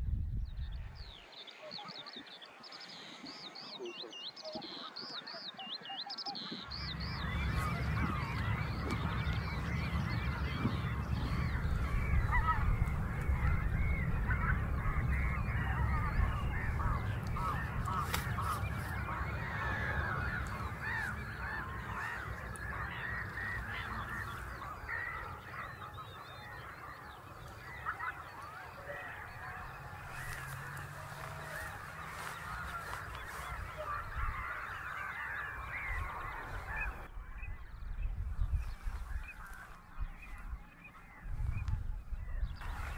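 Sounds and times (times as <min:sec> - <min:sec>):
geese honking: 0:06.6 - 0:37.8, 0:38.4 - 0:42.9.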